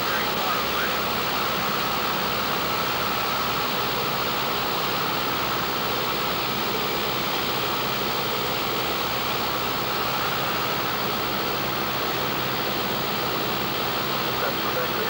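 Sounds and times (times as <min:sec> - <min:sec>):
aircraft engine and propeller: 0:00.0 - 0:15.0.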